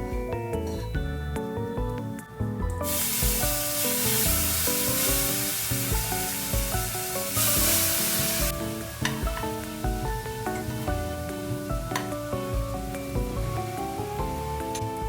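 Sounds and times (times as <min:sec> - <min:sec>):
light background music: 0:00.0 - 0:15.0
food sizzling in a pan: 0:02.8 - 0:15.0.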